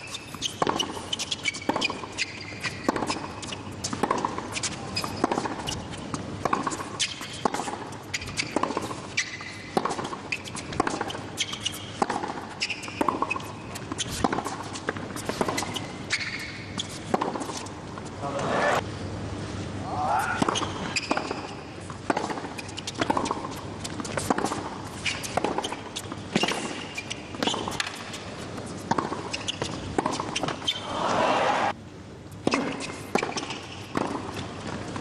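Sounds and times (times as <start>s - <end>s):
tennis ball bouncing: 0.0s - 18.1s, 20.4s - 31.2s, 32.4s - 35.0s
sneakers squeaking on court: 0.0s - 18.2s, 20.3s - 31.2s, 32.4s - 35.0s
racket hitting tennis ball: 0.4s - 18.8s, 20.4s - 31.8s, 32.4s - 34.9s.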